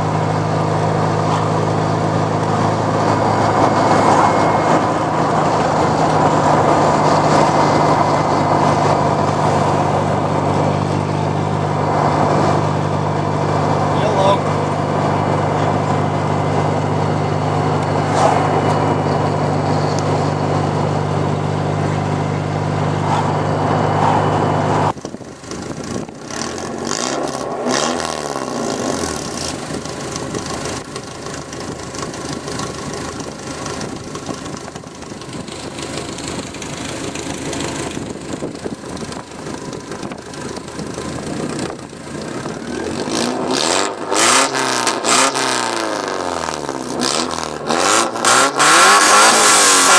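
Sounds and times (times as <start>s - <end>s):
four-cylinder car engine revving: 0.0s - 49.9s.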